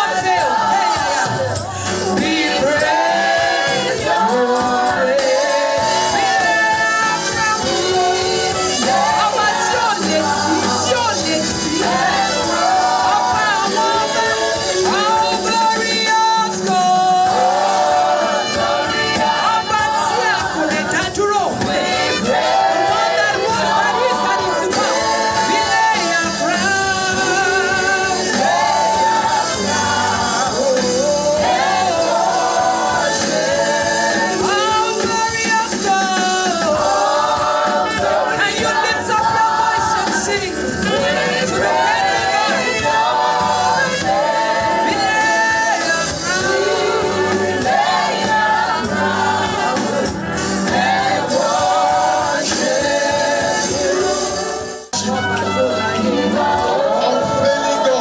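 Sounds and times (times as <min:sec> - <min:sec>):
choir singing gospel: 0:00.0 - 0:58.0
instrumental accompaniment: 0:00.0 - 0:58.0.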